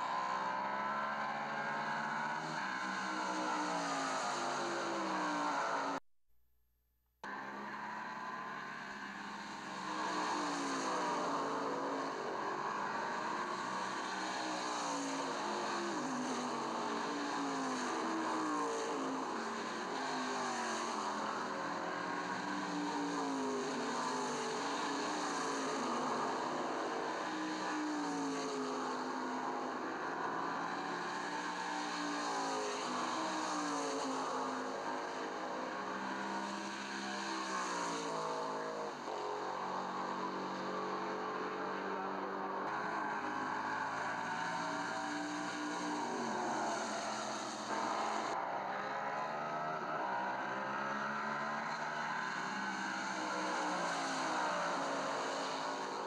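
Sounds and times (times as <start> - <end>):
racing car engines accelerating: 0.0 - 6.0, 7.3 - 56.0.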